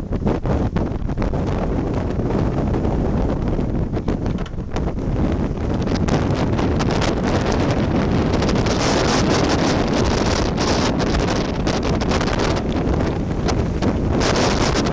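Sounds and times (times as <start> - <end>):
strong wind buffeting microphone: 0.0 - 14.9.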